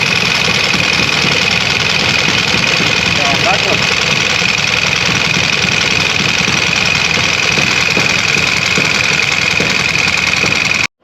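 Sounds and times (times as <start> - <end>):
old engine running loudly: 0.0 - 11.0.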